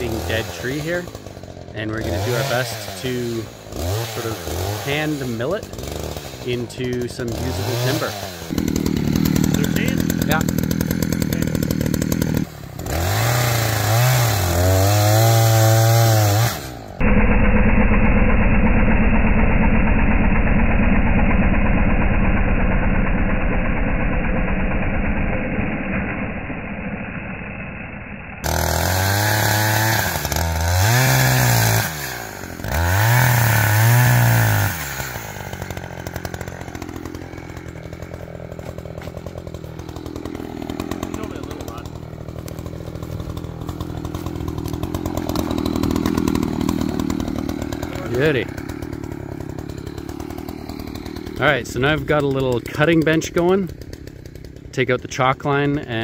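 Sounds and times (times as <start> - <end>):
chainsaw revving and cutting log: 0.0 - 27.5, 28.4 - 56.0.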